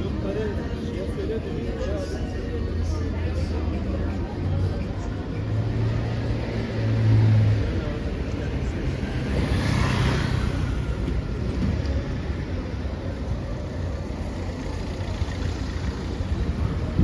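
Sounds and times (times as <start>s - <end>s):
low rumble of traffic engines: 0.0s - 17.0s.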